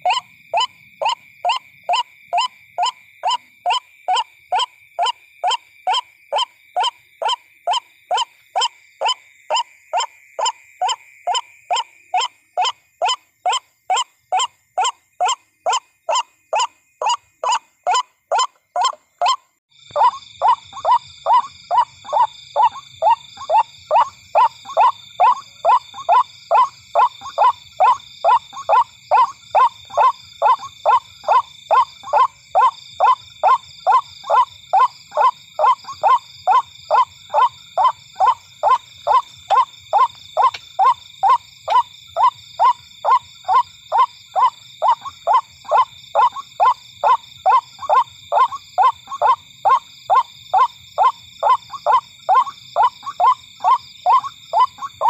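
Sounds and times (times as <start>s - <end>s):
bird harsh repeated call: 0.0s - 55.0s.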